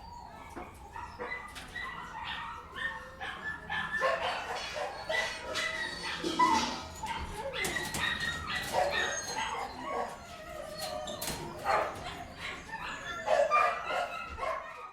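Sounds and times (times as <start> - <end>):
many dogs barking and whining: 0.0 - 14.9.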